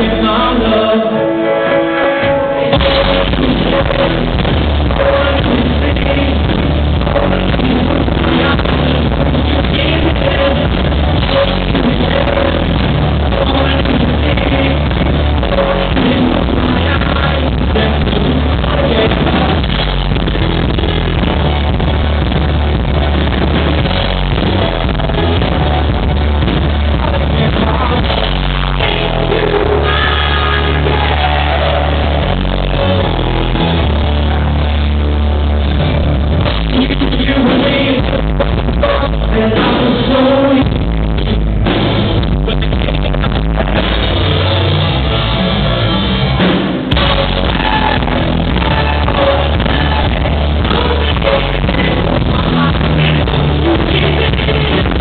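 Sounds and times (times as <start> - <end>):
person singing: 0.0 - 22.4, 23.6 - 34.8, 36.3 - 44.6, 46.9 - 55.0
electric guitar: 0.0 - 55.0
live rock band: 0.0 - 55.0
drum kit: 2.2 - 55.0.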